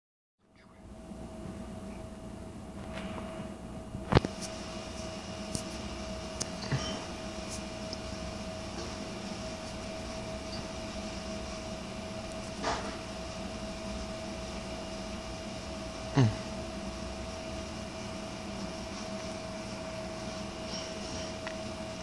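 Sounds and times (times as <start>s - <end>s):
steady hum with held tone: 0.4s - 22.0s.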